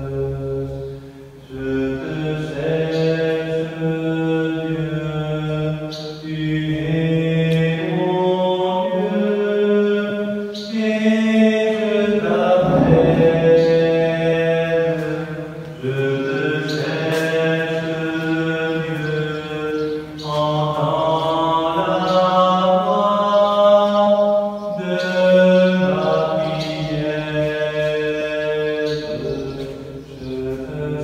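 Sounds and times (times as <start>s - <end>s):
singing slow church hymn: 0.0s - 31.0s.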